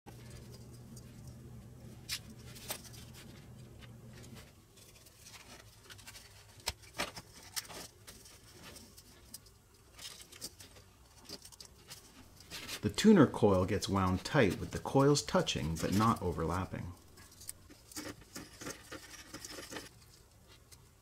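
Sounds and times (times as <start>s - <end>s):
faint low hum: 0.1s - 21.0s.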